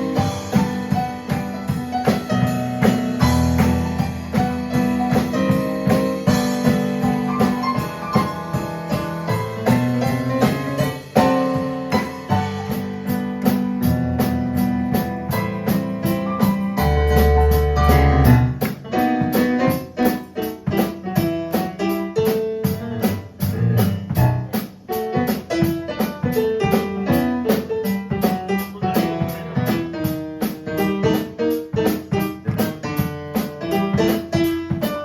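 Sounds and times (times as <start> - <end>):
drum kit cymbal beat: 0.0 - 35.0
electric keyboard playing piano: 0.0 - 35.0.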